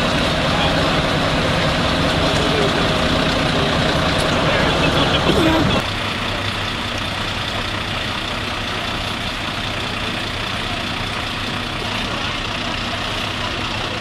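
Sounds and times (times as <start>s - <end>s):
heavy vehicle engine idling: 0.0s - 14.0s.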